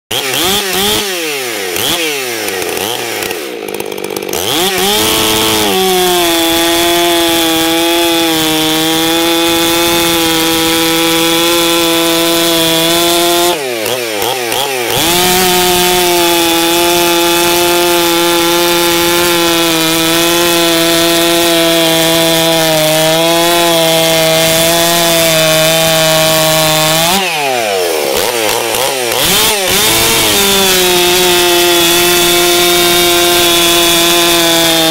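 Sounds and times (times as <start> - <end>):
chainsaw cutting a log: 0.0 - 34.9
chainsaw revving: 0.1 - 34.9.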